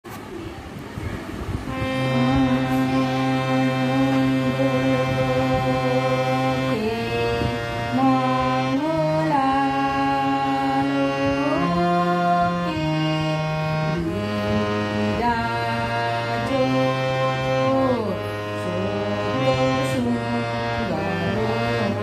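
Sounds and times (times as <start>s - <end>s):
melodic music of long notes: 1.7s - 22.0s.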